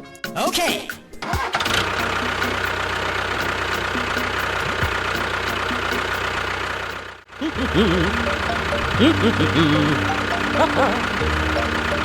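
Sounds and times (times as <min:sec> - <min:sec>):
small engine idling: 0:01.2 - 0:12.0.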